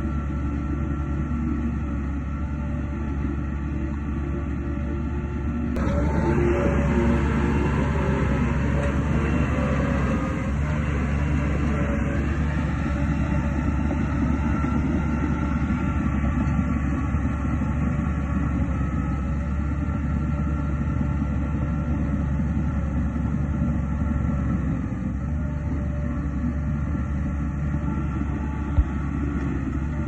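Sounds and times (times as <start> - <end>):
heavy diesel machinery rumbling: 0.0 - 30.0.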